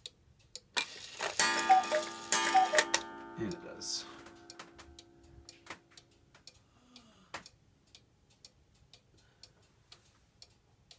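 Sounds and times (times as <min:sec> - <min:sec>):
clock pendulum ticking: 0:00.0 - 0:09.6.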